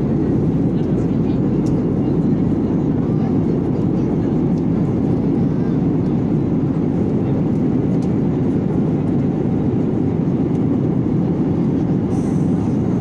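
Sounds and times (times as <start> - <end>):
jet airliner cabin drone: 0.0 - 13.0.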